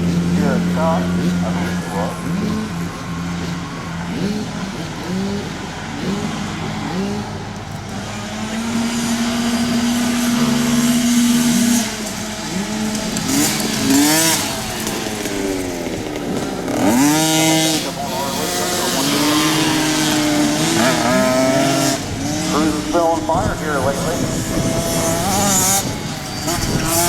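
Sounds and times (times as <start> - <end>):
motorcycle engines accelerating: 0.0 - 27.0
motorcycle revving sharply: 0.0 - 27.0.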